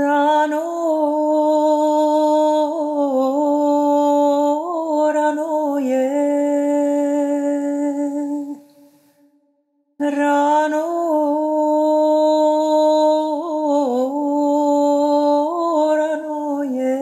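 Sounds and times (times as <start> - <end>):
woman singing unaccompanied: 0.0 - 8.6, 10.0 - 17.0.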